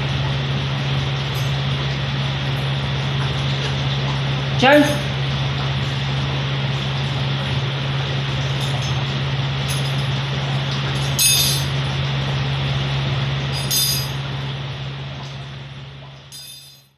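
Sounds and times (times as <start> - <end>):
electrical appliance humming: 0.0 - 16.9.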